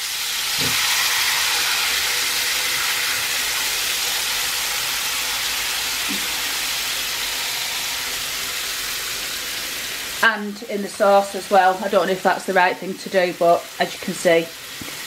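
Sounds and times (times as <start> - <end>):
fish sizzling in a frying pan: 0.0 - 15.0.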